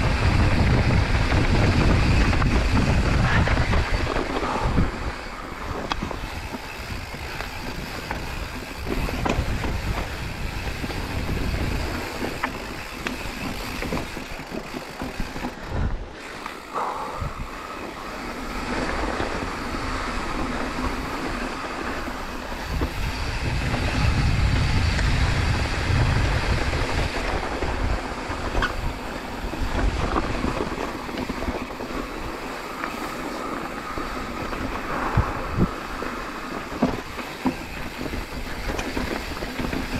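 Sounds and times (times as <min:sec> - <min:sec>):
wind on microphone: 0:00.0 - 0:16.2, 0:16.8 - 0:39.9
bike rattling: 0:00.0 - 0:39.9
tyres on dirt and rock: 0:00.1 - 0:16.8, 0:17.7 - 0:39.9.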